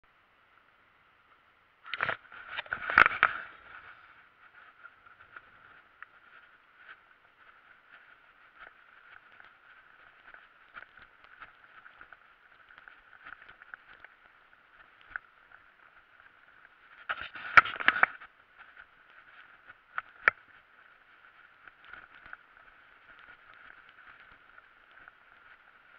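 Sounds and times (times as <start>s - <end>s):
muffled bike rustle: 1.3s - 25.9s.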